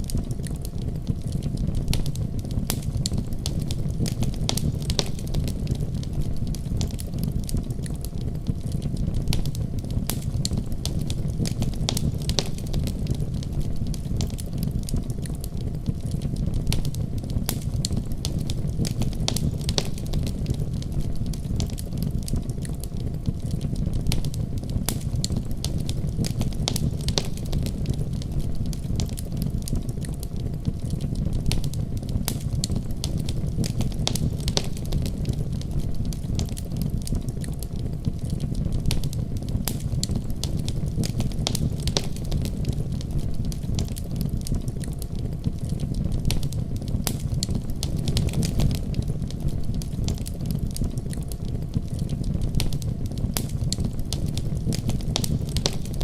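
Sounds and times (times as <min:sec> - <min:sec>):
fireplace crackling: 0:00.0 - 0:56.0.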